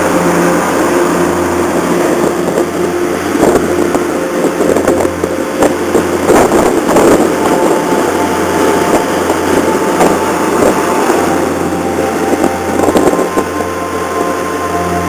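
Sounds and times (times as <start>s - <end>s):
faint whining tones: 0.0s - 15.0s
ship engines humming: 0.0s - 15.0s.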